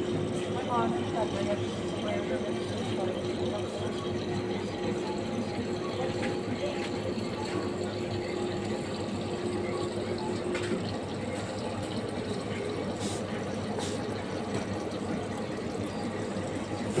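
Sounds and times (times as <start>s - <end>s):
water filling plastic bottle: 0.0s - 17.0s.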